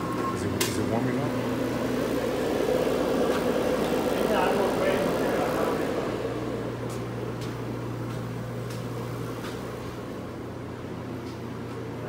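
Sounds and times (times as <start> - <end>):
heater fan and burner rushing hum: 0.0 - 12.0.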